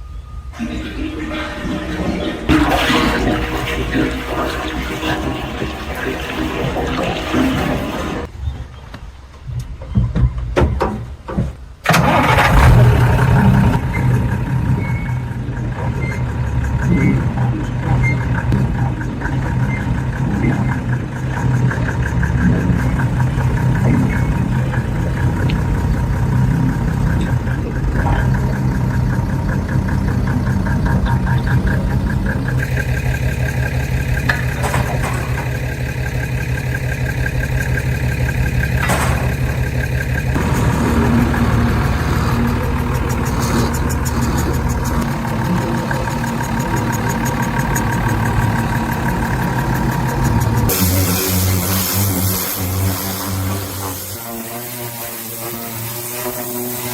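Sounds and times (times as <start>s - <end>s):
diesel engine running: 0.0s - 8.3s, 11.8s - 56.9s.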